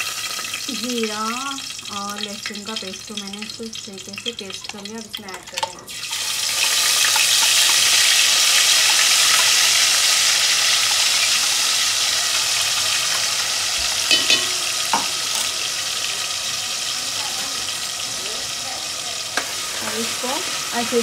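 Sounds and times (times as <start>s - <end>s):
paste sizzling in hot oil: 0.0s - 21.0s.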